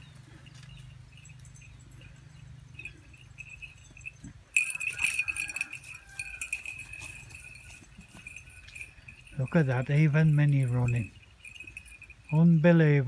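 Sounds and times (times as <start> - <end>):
metallic jingling and clinking: 0.0 - 13.0.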